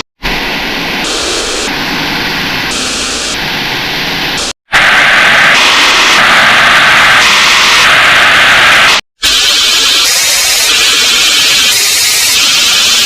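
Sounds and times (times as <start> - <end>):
harsh pulsing static noise: 0.0 - 13.0.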